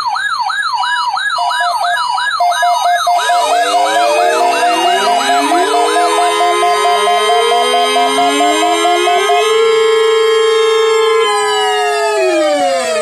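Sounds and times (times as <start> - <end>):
fast wailing siren: 0.0 - 13.0
steady alarm tone: 0.0 - 13.0
rapid beeping: 1.6 - 13.0
rising siren tones: 1.6 - 13.0.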